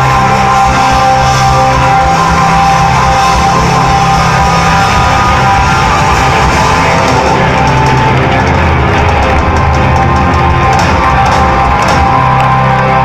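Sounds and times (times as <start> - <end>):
bass guitar: 0.0 - 13.0
drums: 0.0 - 13.0
electric guitar: 0.0 - 13.0.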